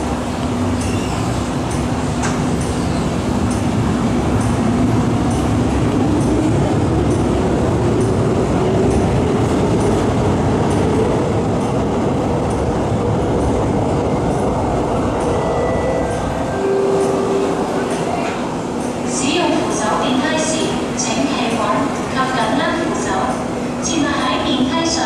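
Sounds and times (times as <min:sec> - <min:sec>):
train rumble: 0:00.0 - 0:25.0
wheels clacking on rails: 0:00.0 - 0:25.0.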